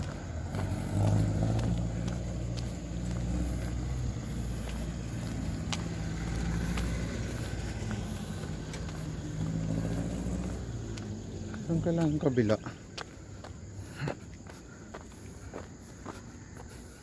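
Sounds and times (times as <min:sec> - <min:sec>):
vehicle engine running at low revs: 0:00.0 - 0:17.0.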